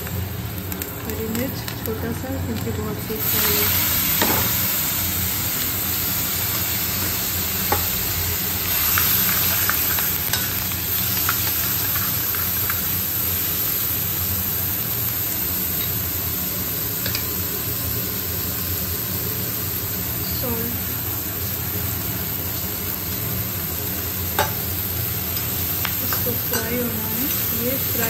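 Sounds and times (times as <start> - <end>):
vegetables sizzling in butter: 0.0 - 28.0.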